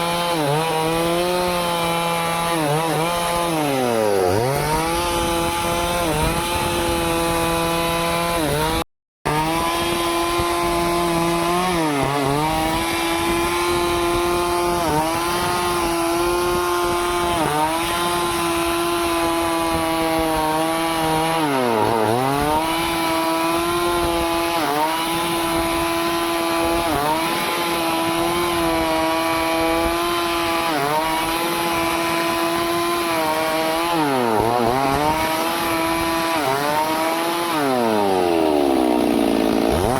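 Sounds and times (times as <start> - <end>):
chainsaw cutting through tree: 0.0 - 39.9.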